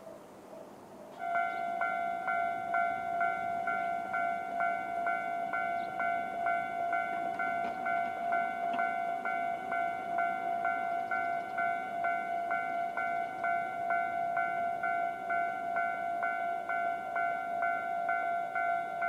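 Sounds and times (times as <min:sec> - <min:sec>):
level crossing warning bells: 0:01.2 - 0:19.0.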